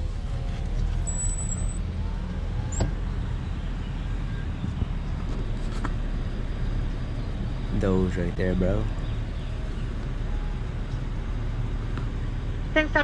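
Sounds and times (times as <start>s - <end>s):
car engine droning from cabin: 0.0s - 13.0s.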